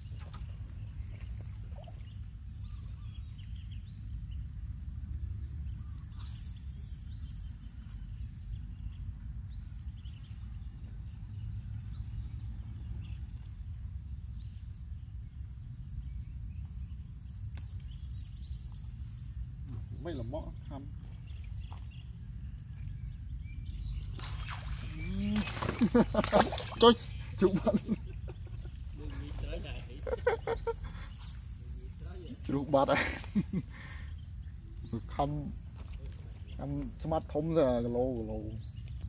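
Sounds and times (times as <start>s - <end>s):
small bird chirping: 0.0s - 13.4s, 15.8s - 39.0s.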